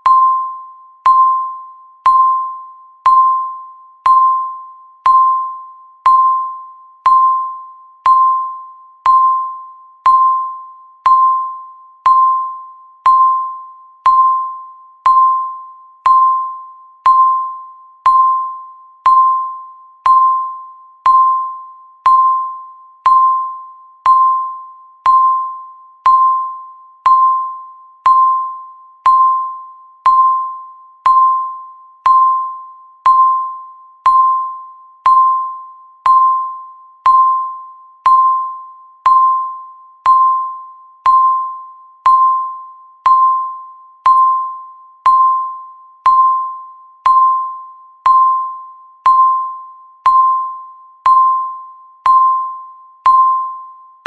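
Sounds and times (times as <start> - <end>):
timer ticking with bell-like tone: 0.0 - 54.0.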